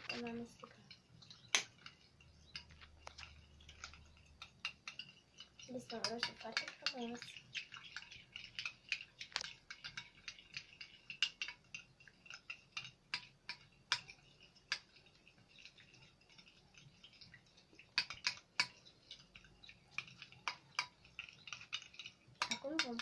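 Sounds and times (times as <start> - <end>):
spoons clinking against glass bowls: 0.0 - 23.0.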